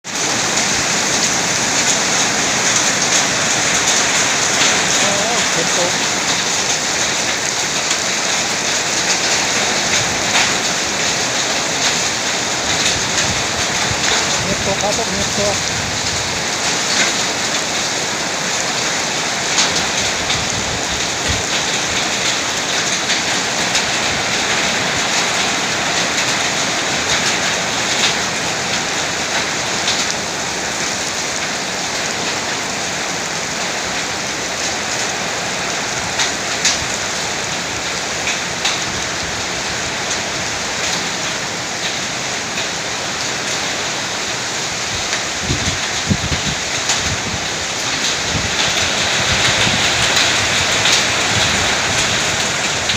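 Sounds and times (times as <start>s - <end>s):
heavy rain hissing: 0.1s - 52.9s.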